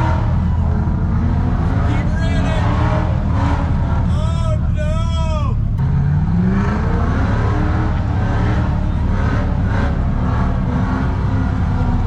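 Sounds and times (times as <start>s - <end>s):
engine revving hard: 0.0s - 5.1s, 5.8s - 12.0s.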